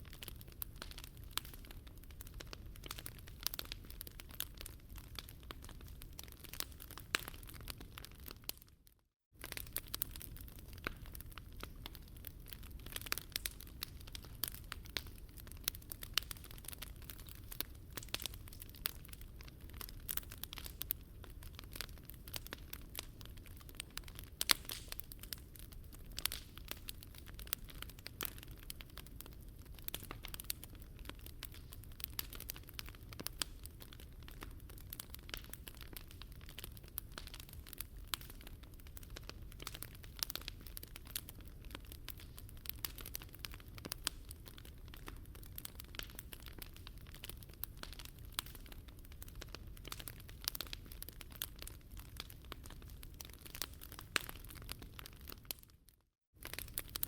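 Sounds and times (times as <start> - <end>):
wood fire crackling: 0.0 - 8.8, 9.4 - 57.0.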